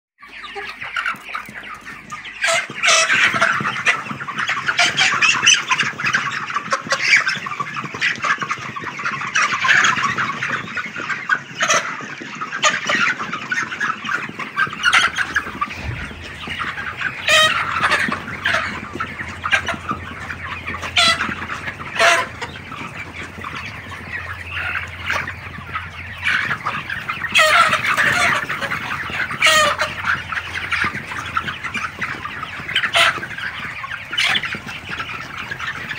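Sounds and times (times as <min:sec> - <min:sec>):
chicken squawks: 0:00.2 - 0:35.9
chickens clucking: 0:00.2 - 0:35.9.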